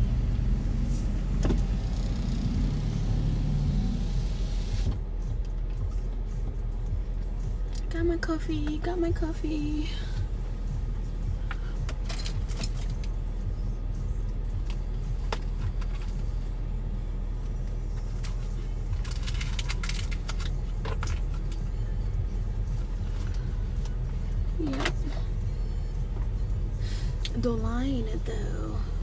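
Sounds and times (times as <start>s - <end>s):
car engine rumble from inside: 0.0s - 29.0s.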